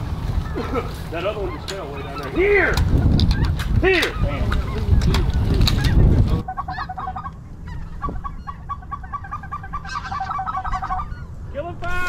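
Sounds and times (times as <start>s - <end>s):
geese calling: 0.0s - 12.0s.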